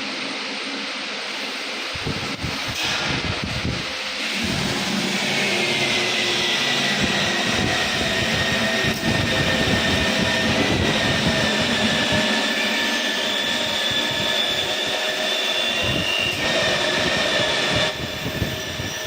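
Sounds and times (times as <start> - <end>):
glass drilling machine whine: 0.0 - 19.0.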